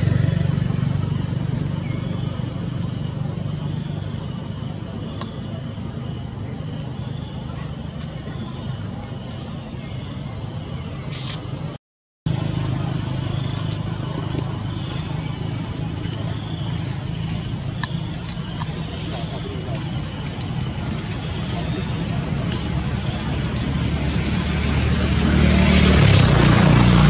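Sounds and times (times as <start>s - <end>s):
insect drone: 0.0s - 11.7s, 12.3s - 27.0s.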